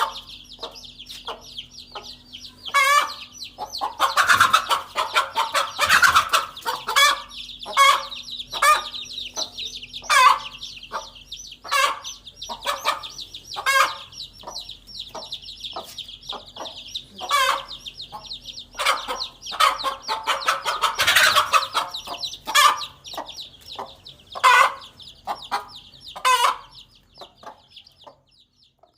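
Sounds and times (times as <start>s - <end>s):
chicks peeping: 0.0s - 28.9s
hen clucking: 0.0s - 28.9s.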